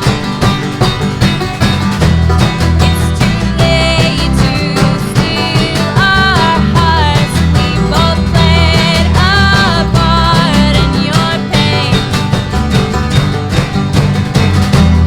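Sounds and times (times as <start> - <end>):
band playing a song: 0.0 - 15.0
guitar: 0.0 - 15.0.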